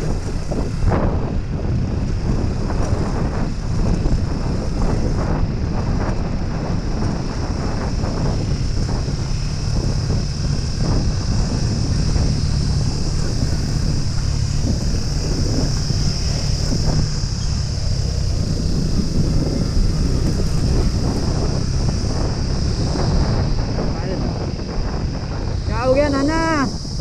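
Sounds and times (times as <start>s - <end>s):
motorcycle engine drone: 0.0s - 27.0s
wind buffeting microphone: 0.0s - 27.0s.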